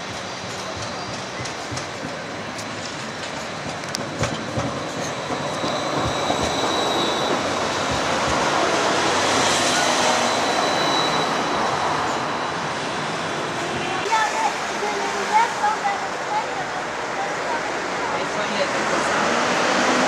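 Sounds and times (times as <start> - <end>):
tram passing: 0.0 - 20.0.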